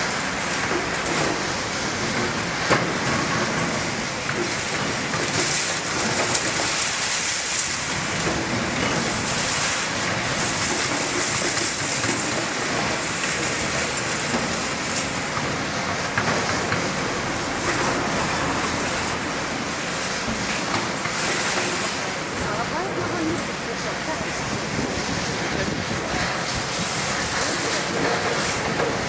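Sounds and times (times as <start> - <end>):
diesel engines running: 0.0 - 29.0.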